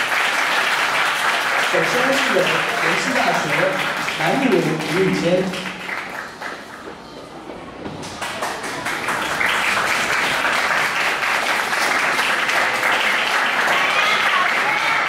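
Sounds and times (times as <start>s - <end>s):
audience applauding: 0.0s - 7.0s, 8.0s - 15.0s.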